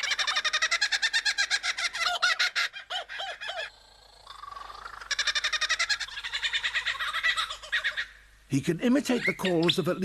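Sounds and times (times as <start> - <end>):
lyrebird cackling calls: 0.0 - 8.3.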